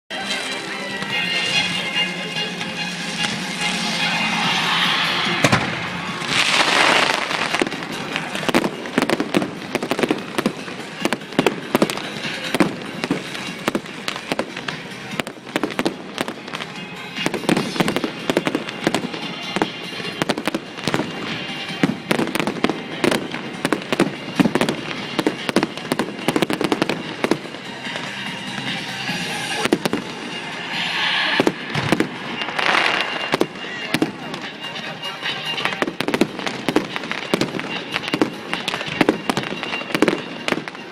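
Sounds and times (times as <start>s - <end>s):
fireworks bangs and crackles: 0.1s - 40.9s
fireworks hissing: 0.1s - 40.9s.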